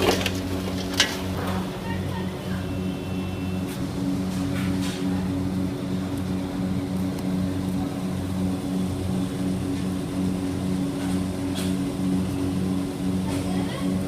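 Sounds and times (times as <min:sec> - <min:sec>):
pulsing motor hum: 0:00.0 - 0:14.0.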